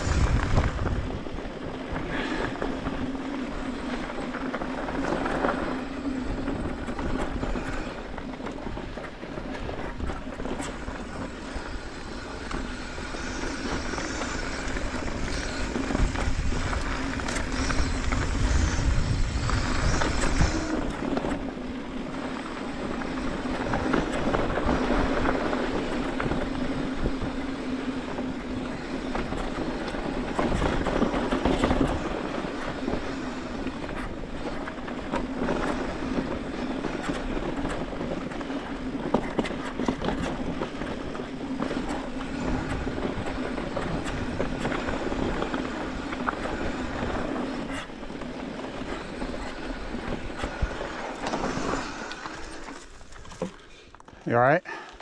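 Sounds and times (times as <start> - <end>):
rough rumbling noise: 0.0 - 54.6.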